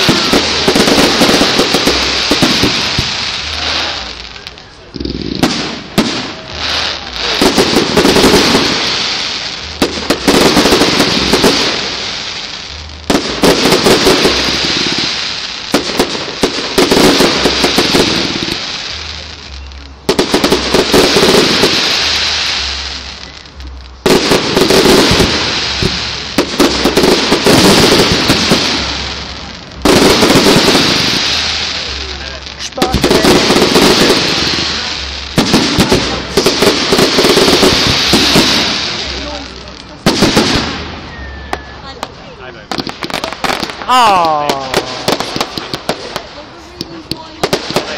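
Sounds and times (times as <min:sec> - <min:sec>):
firework crackling: 0:00.0 - 0:47.9
loud firework bursts: 0:00.0 - 0:47.9.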